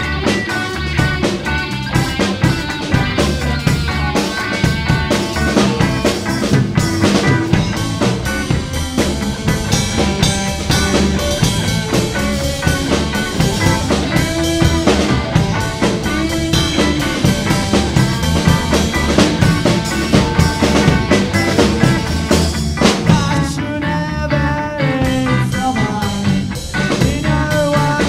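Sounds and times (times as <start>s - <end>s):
bass guitar: 0.0s - 28.0s
drum kit: 0.0s - 28.0s
electric guitars: 0.0s - 28.0s.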